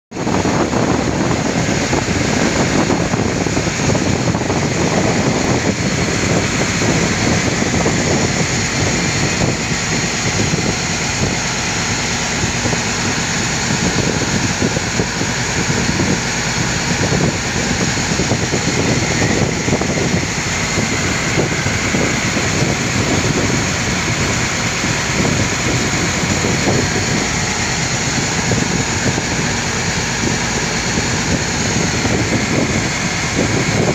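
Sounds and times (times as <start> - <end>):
boat engine running: 0.1 - 33.9
wind buffeting microphone: 0.1 - 33.9.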